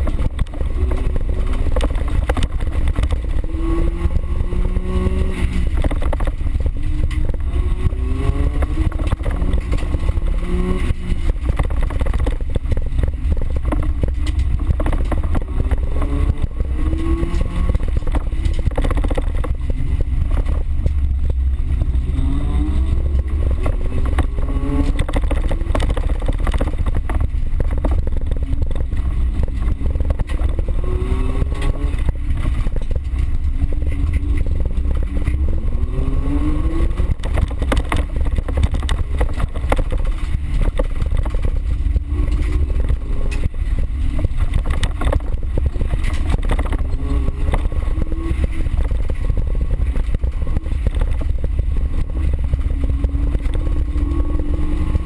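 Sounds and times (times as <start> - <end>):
car engine revving: 0.0 - 55.0
knocks and rattles: 0.0 - 55.0.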